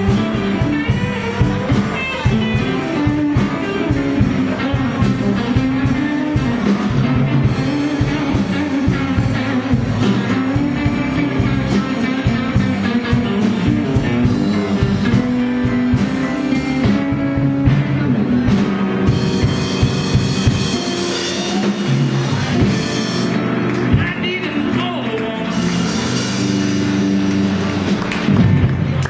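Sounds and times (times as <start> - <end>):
blues band playing: 0.0 - 29.0.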